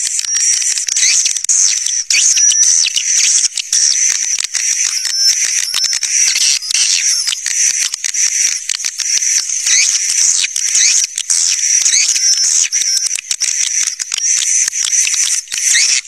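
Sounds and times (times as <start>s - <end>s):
swiftlets twittering: 0.0s - 16.0s.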